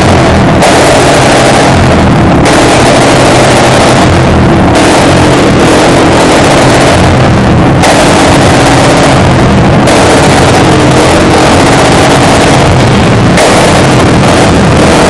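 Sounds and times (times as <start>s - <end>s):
motorcycle engine revving loudly: 0.0s - 15.0s.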